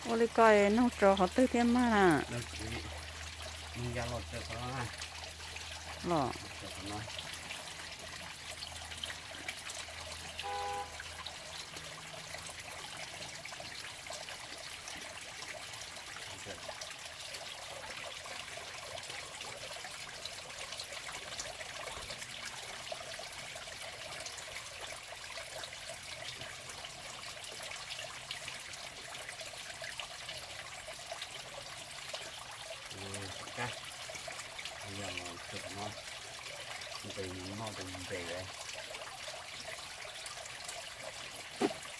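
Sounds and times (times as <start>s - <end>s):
trickle of running water: 0.0s - 41.9s.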